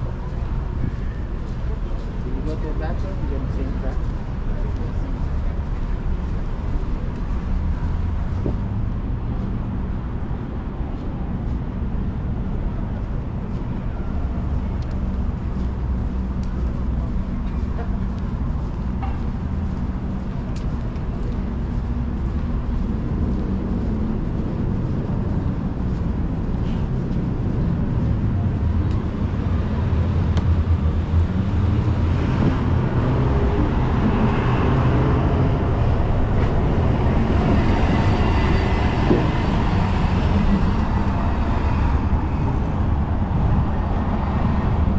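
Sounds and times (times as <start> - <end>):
passing cars: 0.0 - 44.9.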